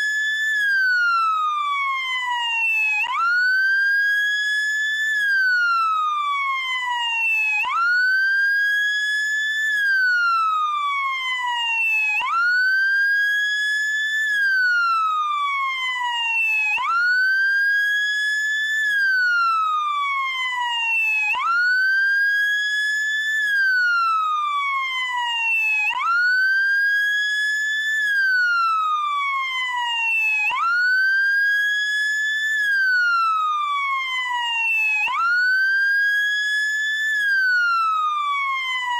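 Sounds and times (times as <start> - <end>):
ambulance wail siren: 0.0 - 38.9.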